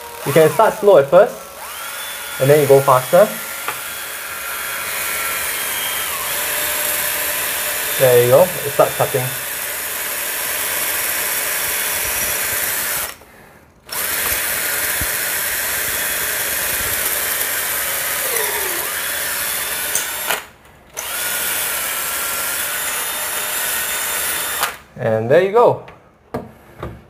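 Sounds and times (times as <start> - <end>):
drill grinding into tile: 0.0 - 13.2, 13.9 - 24.8.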